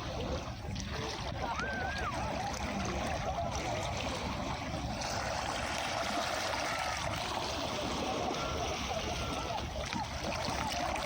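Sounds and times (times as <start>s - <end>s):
waves washing onto beach: 0.0s - 11.0s.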